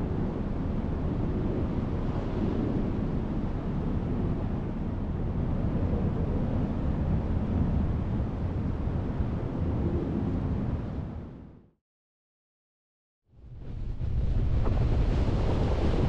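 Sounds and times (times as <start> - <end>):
wind rushing across microphone: 0.0 - 11.7, 13.4 - 16.0.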